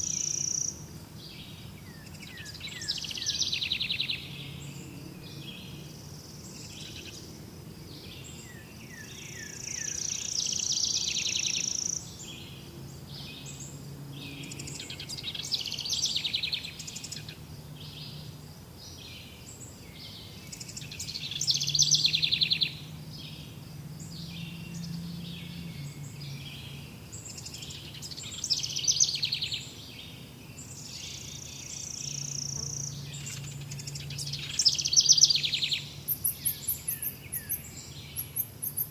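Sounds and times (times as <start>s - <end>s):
birds singing and chirping: 0.0s - 38.9s.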